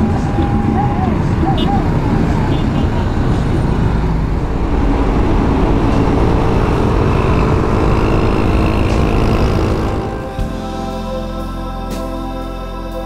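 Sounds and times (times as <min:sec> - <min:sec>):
motorcycle engine rumble: 0:00.0 - 0:11.1
passing traffic: 0:00.0 - 0:11.3.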